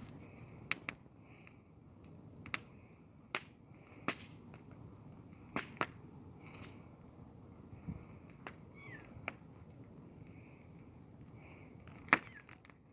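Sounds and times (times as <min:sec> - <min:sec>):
bonfire crackling: 0:00.0 - 0:12.9.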